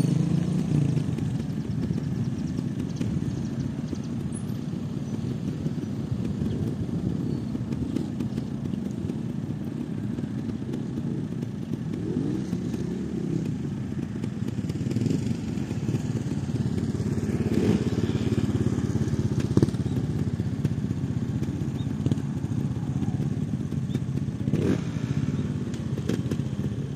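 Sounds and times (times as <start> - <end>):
motorcycle engines idling: 0.0 - 26.9
motorcycle throttle blips: 0.0 - 26.9.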